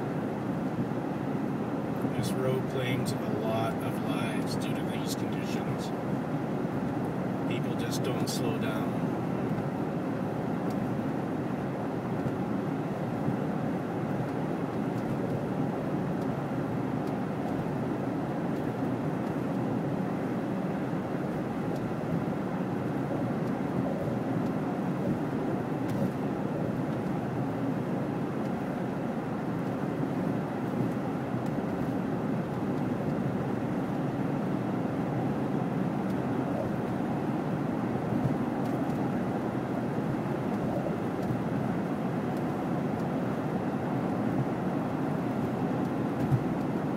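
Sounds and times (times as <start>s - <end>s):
road and engine noise in car: 0.0s - 46.9s.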